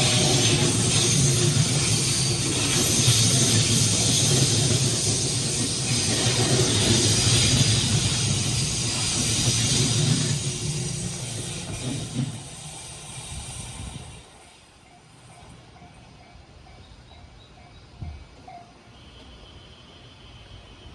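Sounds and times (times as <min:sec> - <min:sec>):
train wheels rumbling on rails: 0:00.0 - 0:19.6
train hiss: 0:00.0 - 0:20.9.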